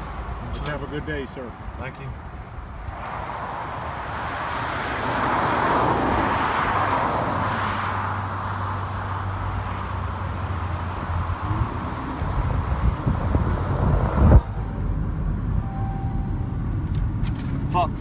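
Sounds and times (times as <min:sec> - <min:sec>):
vehicle passing on highway: 0:00.0 - 0:17.6.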